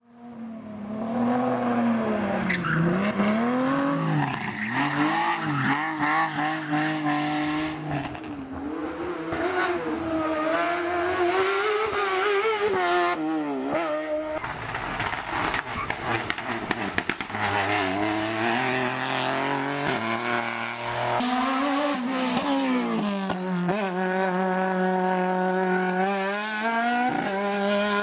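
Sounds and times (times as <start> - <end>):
race car engine revving: 0.2 - 28.0.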